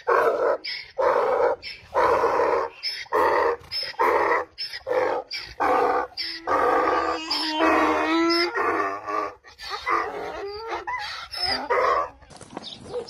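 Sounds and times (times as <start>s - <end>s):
donkey braying: 0.0s - 12.3s.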